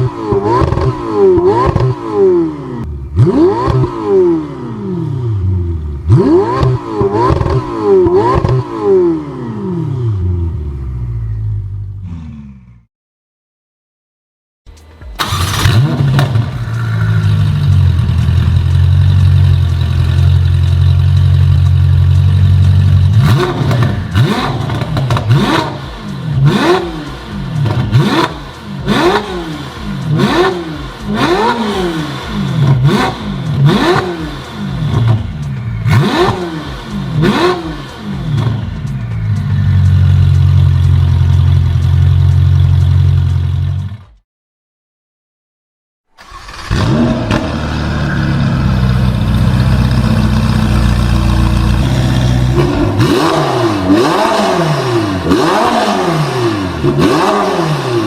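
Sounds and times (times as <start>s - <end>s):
sports car engine idling and revving: 0.0s - 12.8s, 14.7s - 44.2s, 46.3s - 58.0s.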